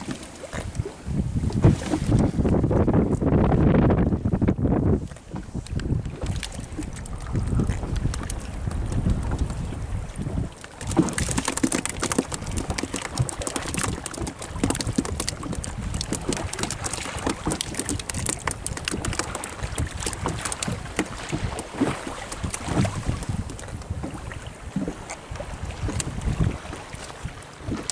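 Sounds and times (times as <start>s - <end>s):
water slapping against hull: 0.0s - 27.9s
wind buffeting microphone: 0.0s - 27.9s.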